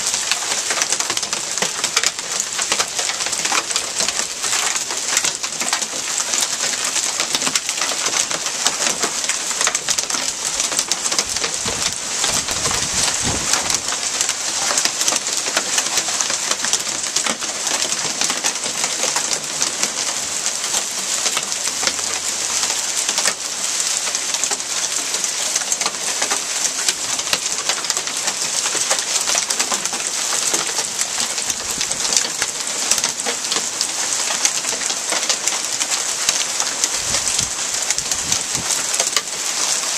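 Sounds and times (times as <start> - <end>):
hail and rain falling: 0.0 - 39.9
hailstones ticking: 0.0 - 39.9.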